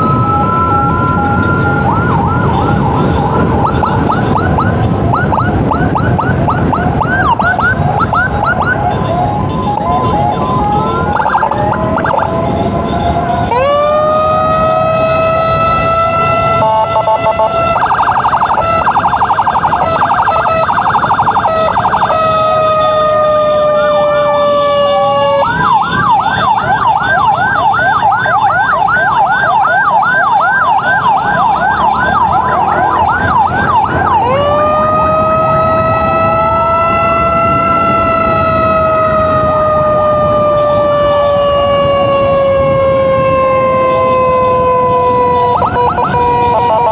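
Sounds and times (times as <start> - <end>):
electronic emergency siren: 0.0 - 46.9
road noise: 0.0 - 46.9.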